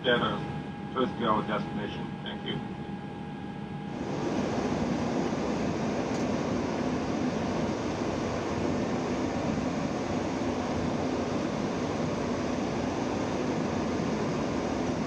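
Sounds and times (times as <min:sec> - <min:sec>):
cockpit air conditioning rushing: 0:00.0 - 0:15.0
faint steady hum: 0:00.0 - 0:15.0.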